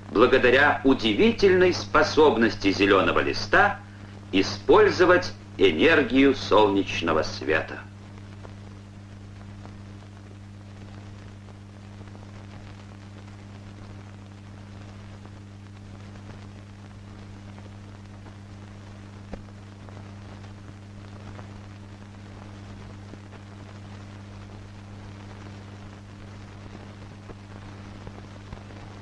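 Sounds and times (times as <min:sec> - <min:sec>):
film hiss and crackle: 0:00.0 - 0:29.0
steady low hum: 0:00.0 - 0:29.0.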